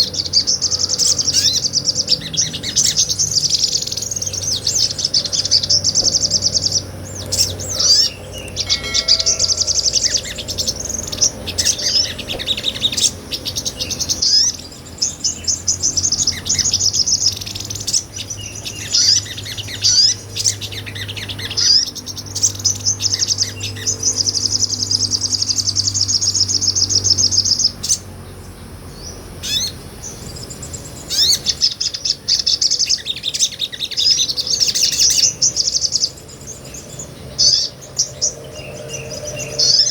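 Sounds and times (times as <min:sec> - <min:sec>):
sunbird twittering trills: 0:00.0 - 0:39.9.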